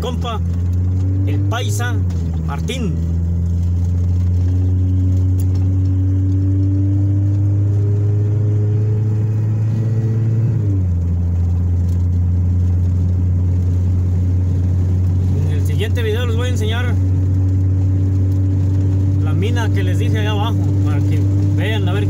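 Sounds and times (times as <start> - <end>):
car engine humming: 0.0 - 22.0
road noise: 0.0 - 22.0.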